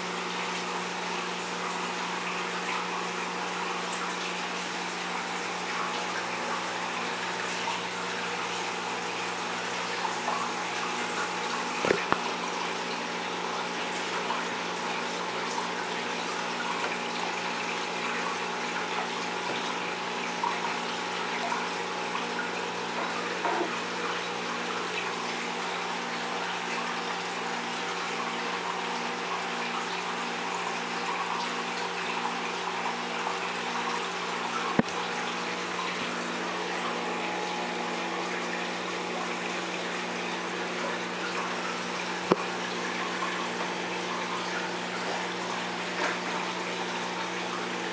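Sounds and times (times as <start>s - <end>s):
aquarium water circulating: 0.0s - 47.9s.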